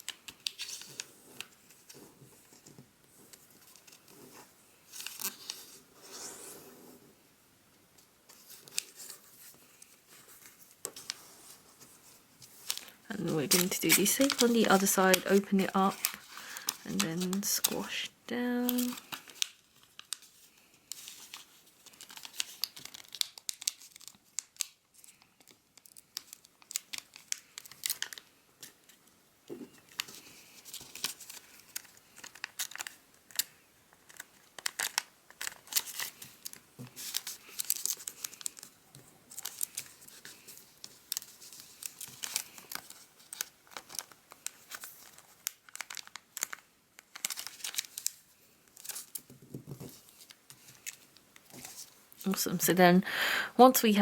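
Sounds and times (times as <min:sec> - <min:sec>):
paper rustling and crinkling: 0:00.0 - 0:06.9, 0:08.3 - 0:52.6.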